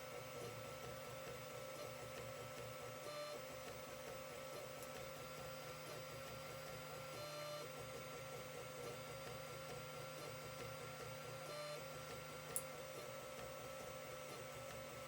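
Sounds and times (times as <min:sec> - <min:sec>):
printer motor whine: 0:00.0 - 0:15.0.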